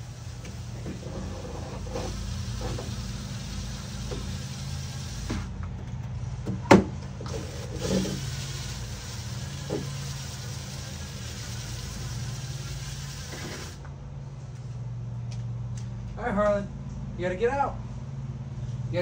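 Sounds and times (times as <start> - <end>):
low motor hum: 0.0 - 17.2.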